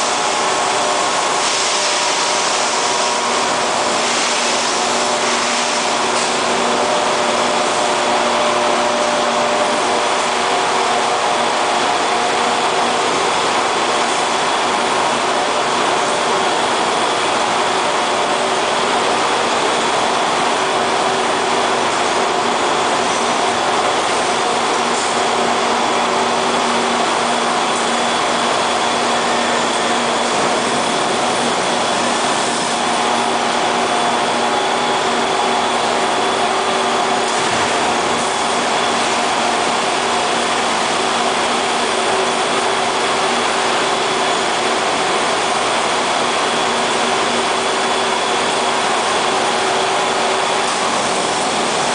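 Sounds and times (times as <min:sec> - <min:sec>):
conveyor machinery running: 0:00.0 - 0:51.9.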